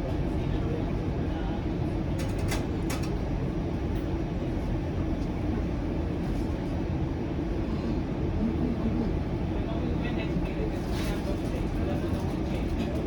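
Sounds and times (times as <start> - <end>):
streetcar rumble inside cabin: 0.0 - 13.0.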